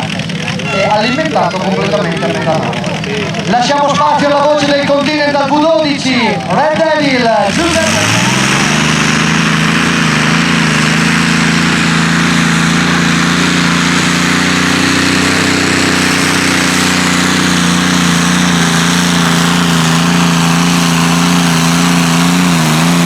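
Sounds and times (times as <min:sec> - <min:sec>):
tractor engine running loud: 0:00.0 - 0:23.0.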